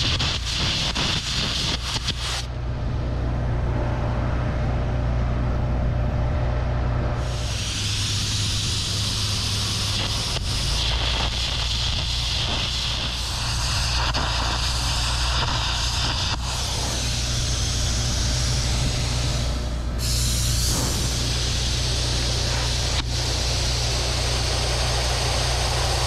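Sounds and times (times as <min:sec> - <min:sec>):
compressed air jet hissing: 0:00.0 - 0:02.5, 0:07.2 - 0:26.0
carbon arc crackling: 0:00.0 - 0:02.6, 0:07.2 - 0:26.0
low engine hum: 0:02.2 - 0:26.0.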